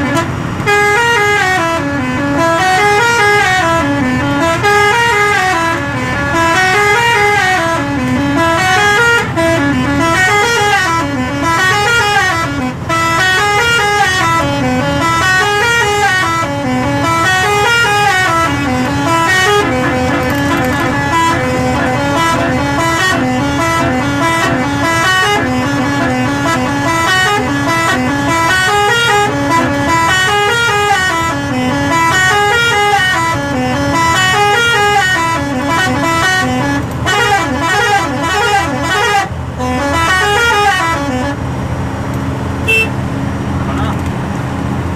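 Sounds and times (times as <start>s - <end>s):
musical truck horn tune: 0.0s - 43.1s.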